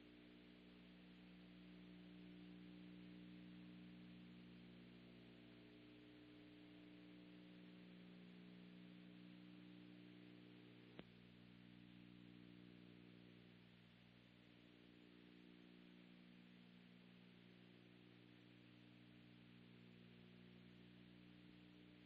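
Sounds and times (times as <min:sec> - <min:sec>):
faint hum with hiss: 0:00.0 - 0:22.0.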